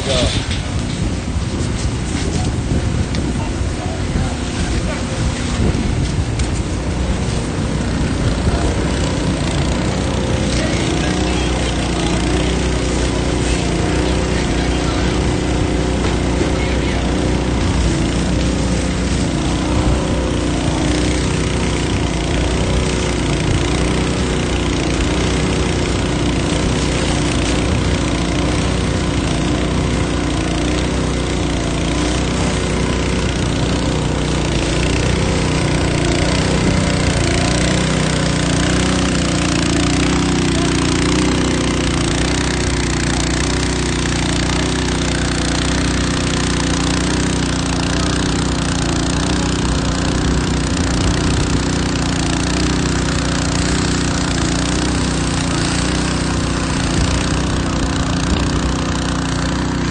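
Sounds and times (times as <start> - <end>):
fire burning: 0.0 - 59.9
pump engine running: 0.0 - 59.9.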